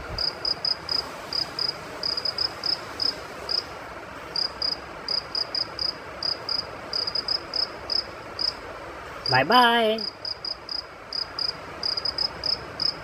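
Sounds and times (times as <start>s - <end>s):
steady background hiss: 0.0s - 13.0s
cricket chirping: 0.2s - 3.6s, 4.4s - 8.6s, 9.2s - 13.0s.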